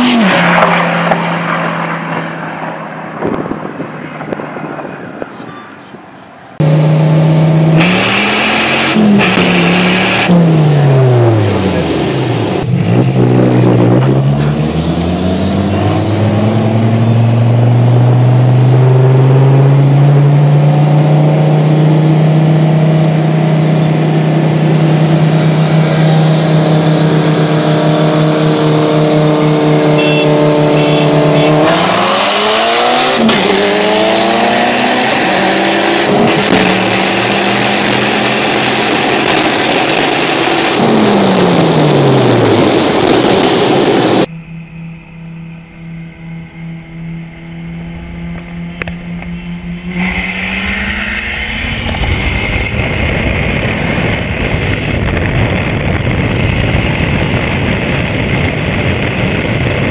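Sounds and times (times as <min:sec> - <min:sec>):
car engine accelerating hard: 0:00.0 - 0:05.4, 0:06.6 - 0:59.9.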